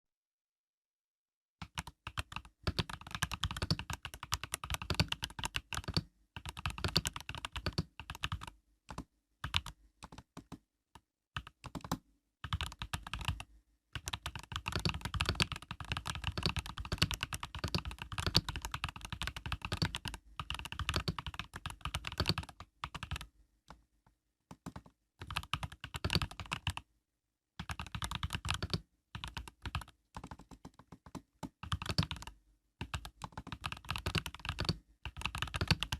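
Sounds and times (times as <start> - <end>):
mechanical keyboard typing: 1.6 - 10.6, 11.4 - 13.4, 14.0 - 23.3, 24.5 - 26.8, 27.6 - 35.9.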